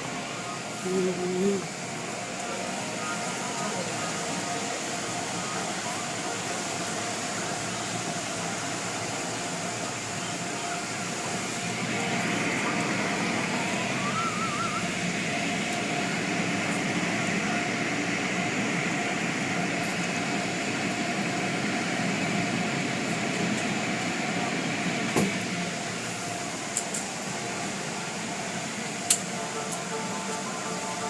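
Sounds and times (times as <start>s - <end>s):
steady machine noise: 0.0s - 31.0s.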